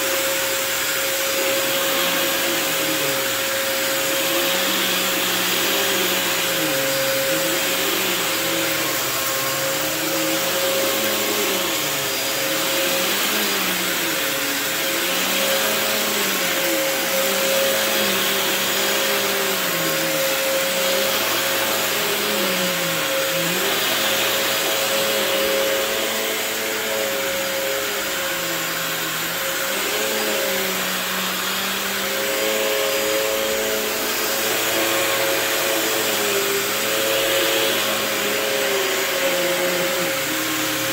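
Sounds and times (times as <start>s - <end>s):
vacuum cleaner motor whine: 0.0s - 40.9s.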